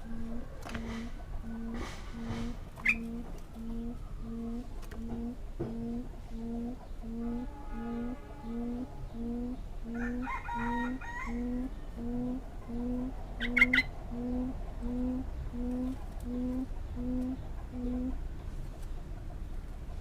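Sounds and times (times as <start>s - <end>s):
small birds chirping: 0.0s - 10.4s, 11.0s - 20.0s
quail low hoots: 0.0s - 18.2s.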